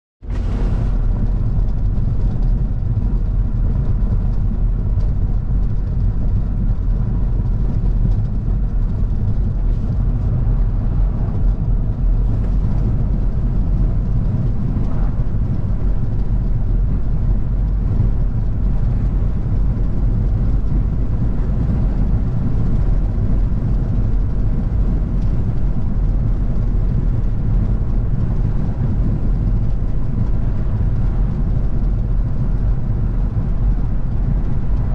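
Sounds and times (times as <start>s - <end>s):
car engine and road rumble: 0.2s - 34.9s.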